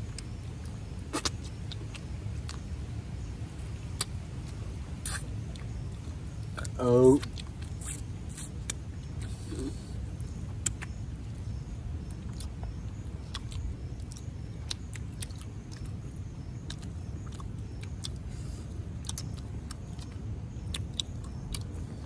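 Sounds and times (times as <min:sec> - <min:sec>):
people chewing chicken: 0:00.0 - 0:02.8, 0:03.9 - 0:22.0.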